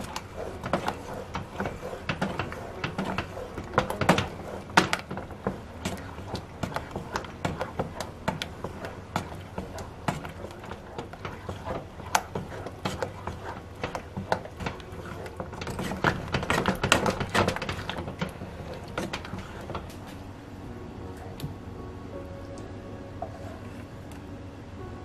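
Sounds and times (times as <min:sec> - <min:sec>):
utensil scraping and tapping a pot: 0:00.0 - 0:20.2.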